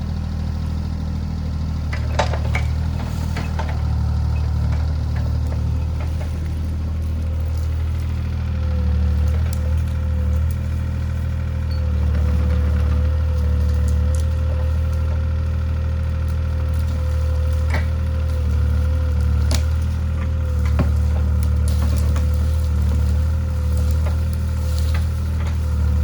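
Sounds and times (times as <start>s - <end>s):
excavator engine running: 0.0s - 26.0s
wood cracking and splintering: 0.0s - 26.0s.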